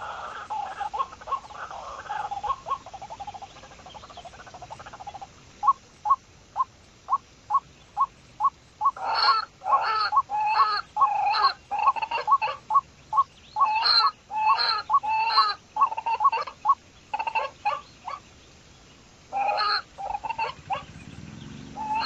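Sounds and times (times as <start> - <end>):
pheasant harsh grating calls: 0.0 - 18.2, 19.3 - 22.0
pheasant clucking: 0.0 - 18.3, 19.3 - 22.0.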